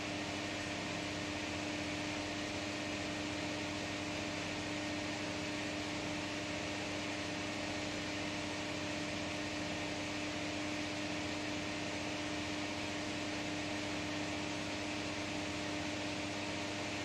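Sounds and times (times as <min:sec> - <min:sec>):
fan hum and air hiss: 0:00.0 - 0:17.0.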